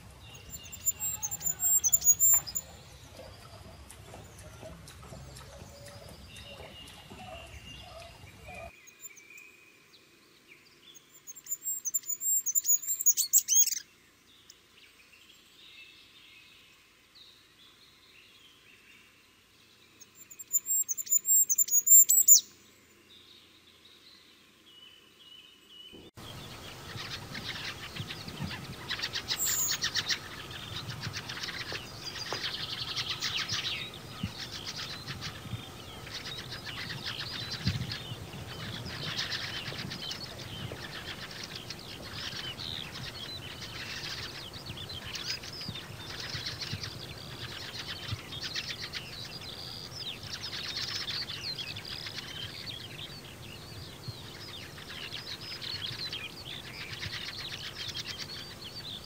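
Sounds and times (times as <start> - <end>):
small birds chirping chorus: 0.0 - 59.0.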